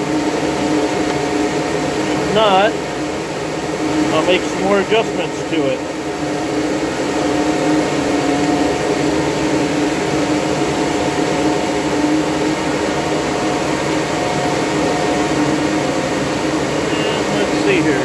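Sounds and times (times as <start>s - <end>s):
cooling fans whirring: 0.0s - 18.0s.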